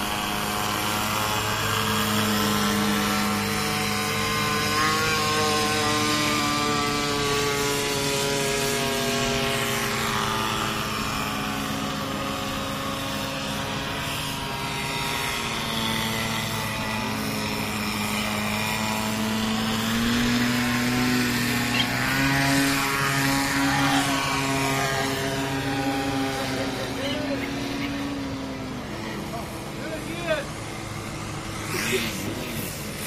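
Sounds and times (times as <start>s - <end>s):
model airplane engine and propeller: 0.0s - 33.0s.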